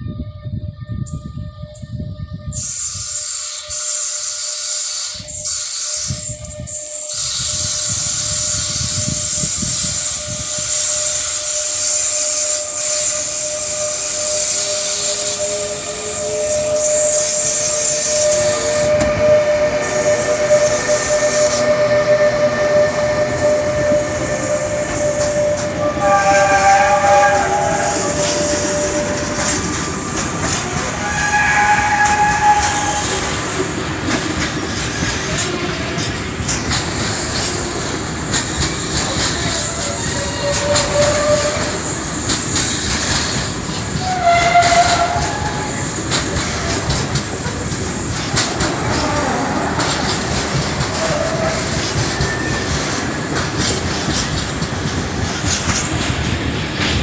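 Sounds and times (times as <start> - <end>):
electric locomotive hiss and whine: 0.0 - 57.0
train wheel squeals: 0.9 - 57.0.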